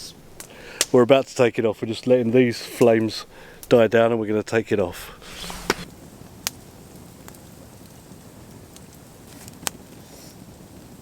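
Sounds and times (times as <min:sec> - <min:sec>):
campfire crackling and popping: 0:00.0 - 0:11.0
low fire hiss: 0:00.0 - 0:11.0.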